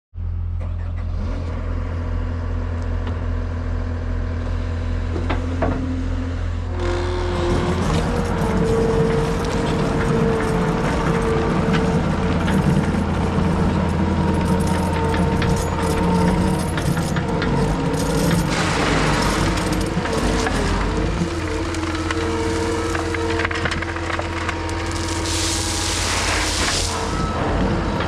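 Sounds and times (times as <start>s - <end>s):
diesel engine revving: 0.2s - 28.0s.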